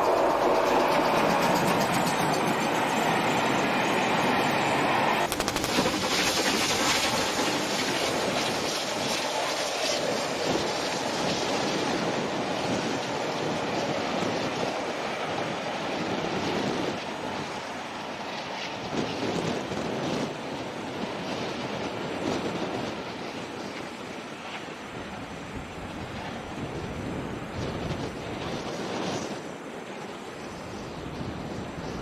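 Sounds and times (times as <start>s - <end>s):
distant train: 0.0s - 32.0s
steam train passing: 0.0s - 32.0s.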